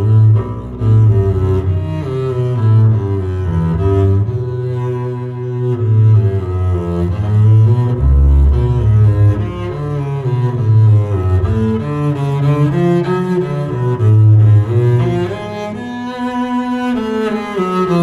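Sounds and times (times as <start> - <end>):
bowed double bass melody: 0.0 - 18.0.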